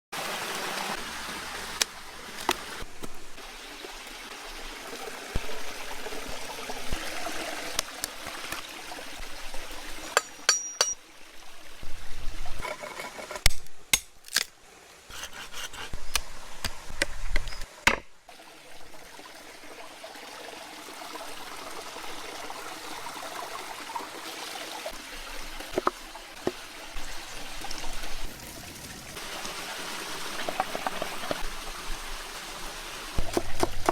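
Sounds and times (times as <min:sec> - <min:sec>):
running trickling water: 0:00.2 - 0:13.4, 0:16.0 - 0:33.9.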